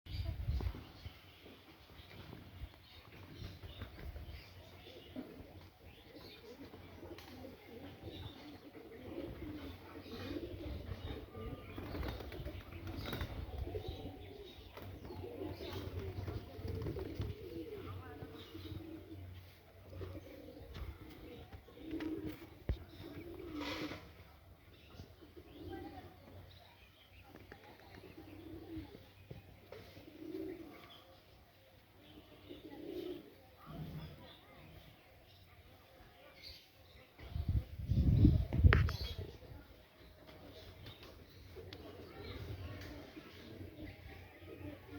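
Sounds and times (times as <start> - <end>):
pigeons cooing: 3.2 - 26.6, 27.2 - 34.5, 37.2 - 44.9.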